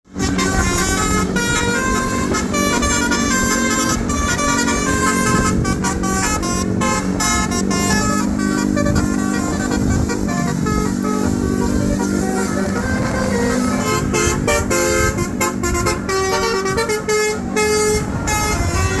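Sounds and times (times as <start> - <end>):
bus melody horn: 0.1 - 19.0
low hum of bus: 0.1 - 19.0.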